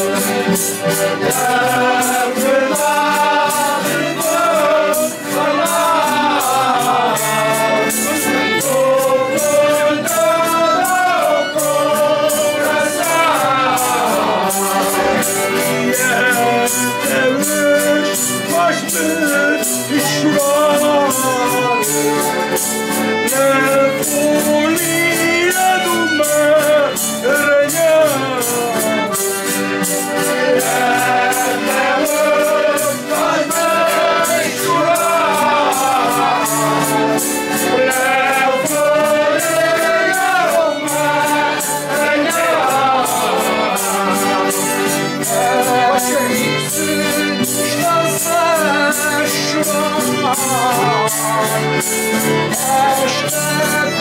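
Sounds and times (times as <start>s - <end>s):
group singing folk songs: 0.0s - 54.0s
instrumental accompaniment: 0.0s - 54.0s
steady percussion beat: 0.0s - 54.0s.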